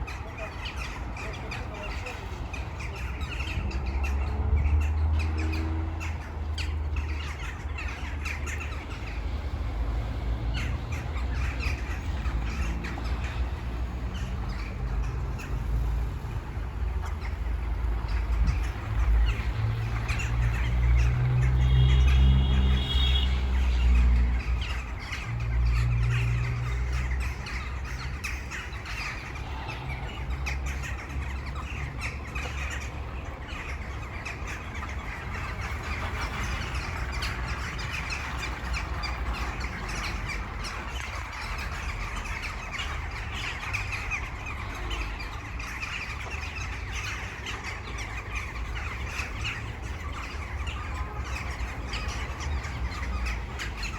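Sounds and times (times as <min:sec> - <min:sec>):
flock of birds chirping: 0:00.0 - 0:53.9.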